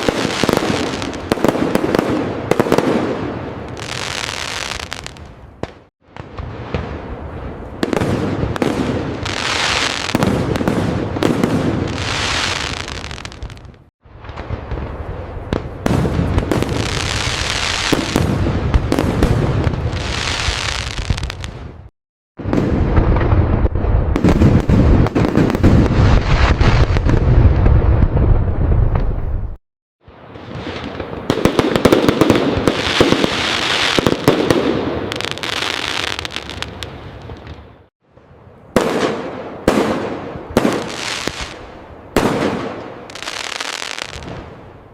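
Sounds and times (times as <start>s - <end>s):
fireworks bangs: 0.0s - 37.9s, 38.7s - 44.9s
fireworks crackling: 0.0s - 37.9s, 38.8s - 44.8s.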